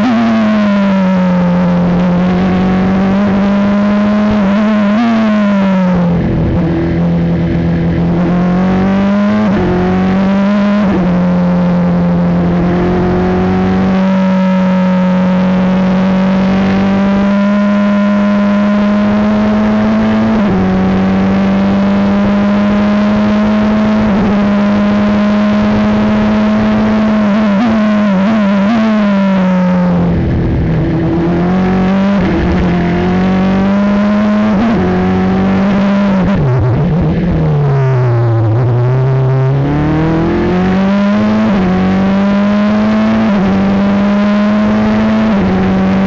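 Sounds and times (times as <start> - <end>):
race car engine accelerating: 0.0 - 46.0.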